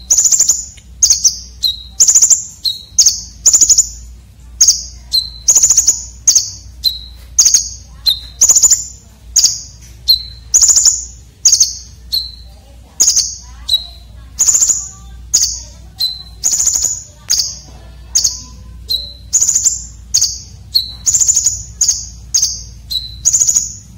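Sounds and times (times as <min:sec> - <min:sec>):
sunbird calling with rasping chatter: 0:00.0 - 0:23.9.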